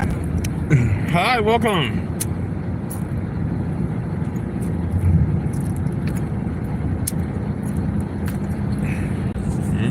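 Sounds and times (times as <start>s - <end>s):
low rumble with hiss: 0.0s - 9.9s.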